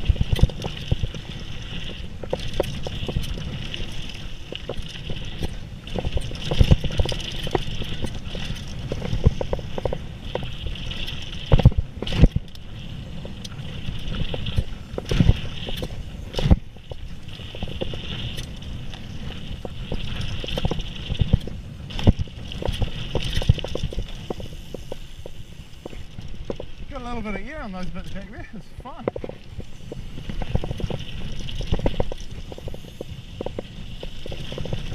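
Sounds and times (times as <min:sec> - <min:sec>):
bike tyres rumbling on dirt: 0:00.0 - 0:34.9.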